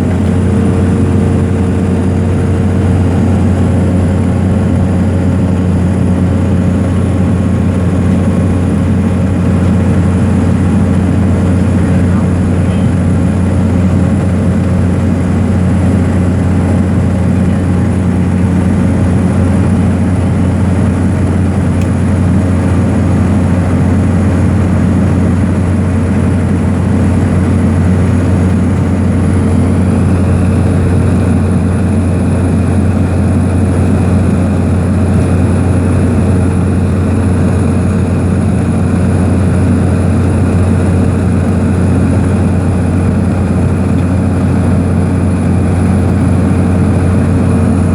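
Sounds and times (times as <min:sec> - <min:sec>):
aircraft engines droning: 0:00.0 - 0:47.9
deep low hum: 0:00.0 - 0:47.9.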